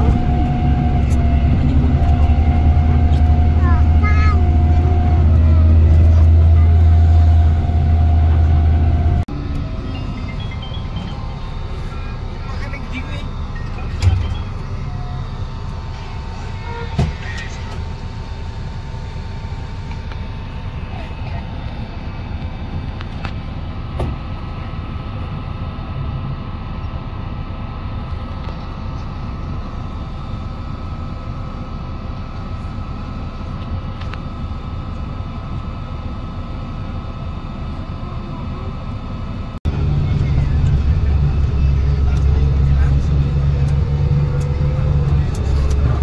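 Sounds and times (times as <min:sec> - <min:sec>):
vehicle engine rumble: 0:00.0 - 0:46.0.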